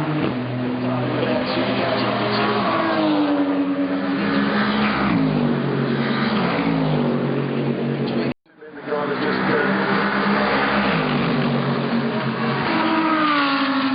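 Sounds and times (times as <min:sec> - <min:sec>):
race car engine running hard: 0:00.0 - 0:13.9.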